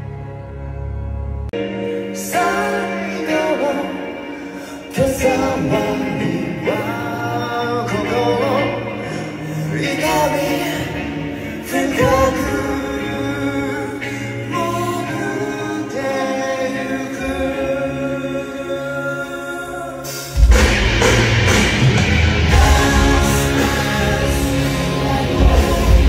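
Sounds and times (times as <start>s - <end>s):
live rock band: 0.0s - 26.0s
man singing: 1.9s - 20.4s, 22.5s - 26.0s.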